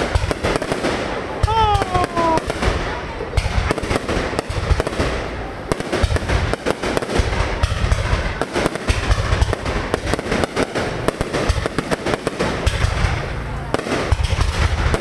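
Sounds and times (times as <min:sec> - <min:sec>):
deep rumbling fireworks booms: 0:00.0 - 0:15.0
fireworks crackling: 0:00.0 - 0:15.0.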